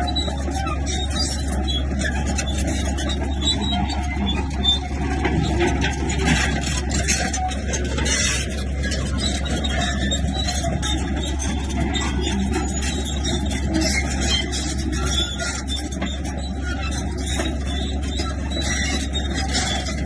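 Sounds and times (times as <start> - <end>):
diesel engine running: 0.0 - 20.0
tracks and blade scraping dirt: 0.0 - 20.0.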